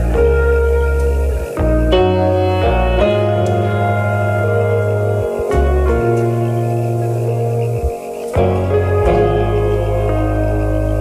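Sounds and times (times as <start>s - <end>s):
calm keyboard chords: 0.0s - 11.0s.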